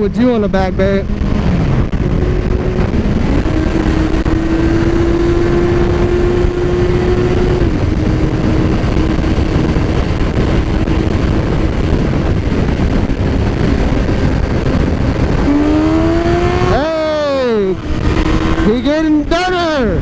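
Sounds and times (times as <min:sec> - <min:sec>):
motorcycle engine: 0:00.0 - 0:20.0
wind rush on microphone: 0:00.0 - 0:20.0.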